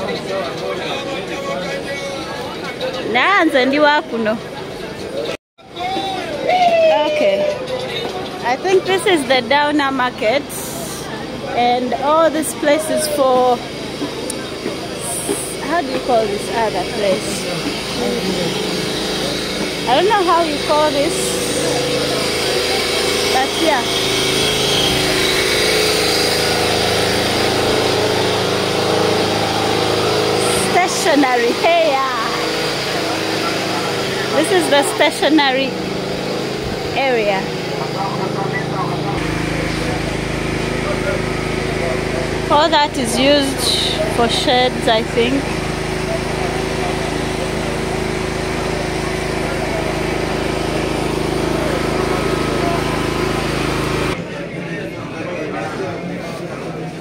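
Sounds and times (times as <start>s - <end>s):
engine humming: 0.0s - 54.2s
market crowd din: 0.0s - 57.0s.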